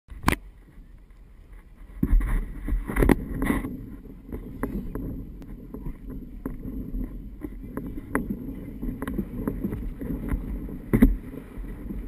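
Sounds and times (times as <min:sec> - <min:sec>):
wind rumbling on microphone: 0:00.1 - 0:12.0
knocks and handling thumps: 0:01.9 - 0:12.0.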